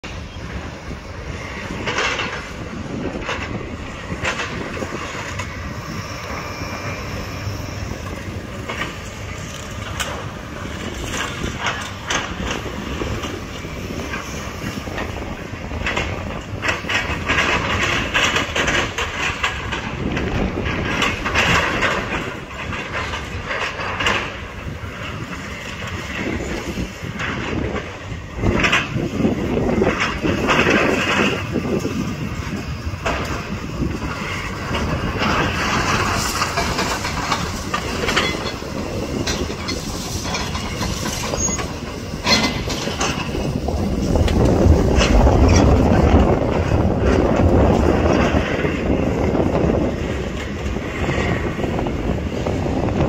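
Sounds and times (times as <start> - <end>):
diesel engines rumbling: 0.0 - 53.0.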